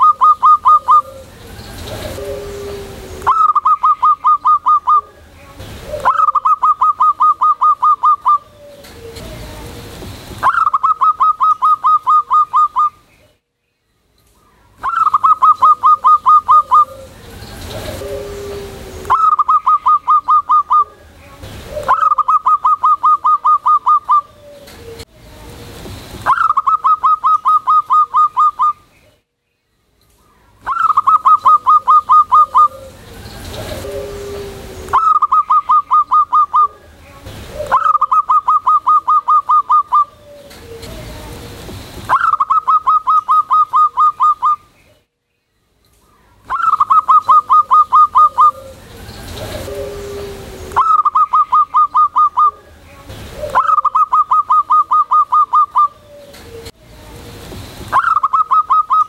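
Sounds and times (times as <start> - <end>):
dove cooing: 0.0 - 13.0, 14.8 - 25.6, 26.2 - 28.8, 30.6 - 44.6, 46.4 - 57.2, 57.9 - 59.0.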